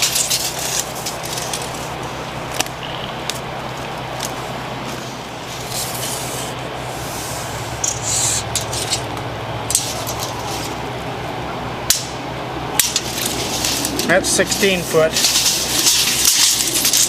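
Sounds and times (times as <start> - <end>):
rustles and scrapes of branches: 0.0 - 11.3, 12.7 - 17.0
steady low hum: 0.0 - 17.0.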